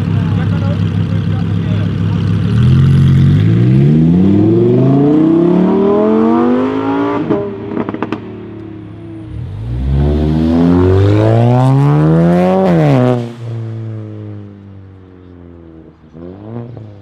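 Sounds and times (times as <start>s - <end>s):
car engine revving: 0.0s - 17.0s
sports car engine accelerating: 0.0s - 17.0s.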